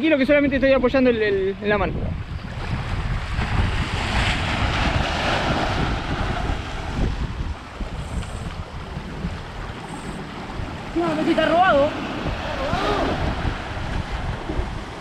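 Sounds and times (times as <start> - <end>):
wind rumbling on microphone: 0.0 - 15.0
sea water washing over rocks: 2.3 - 15.0.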